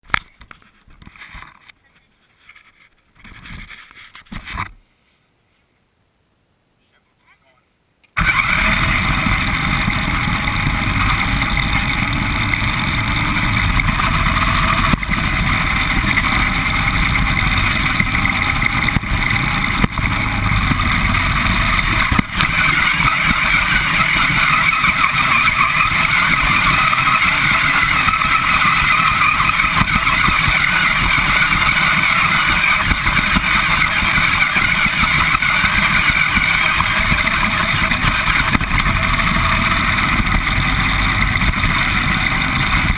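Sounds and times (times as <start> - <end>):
remote control car motor whining: 8.2 - 42.9
tyre and rattle noise: 8.2 - 42.9.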